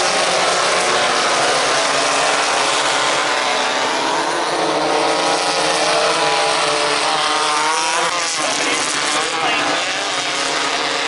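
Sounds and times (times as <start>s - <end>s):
race buggy engines revving: 0.0s - 11.0s.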